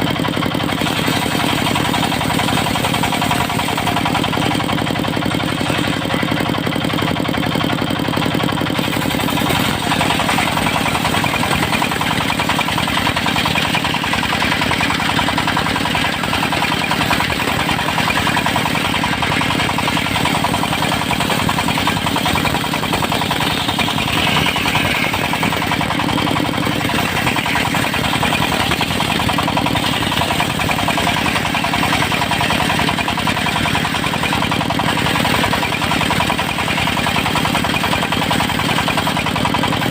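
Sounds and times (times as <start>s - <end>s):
engine-driven circular sawmill running: 0.0s - 39.9s.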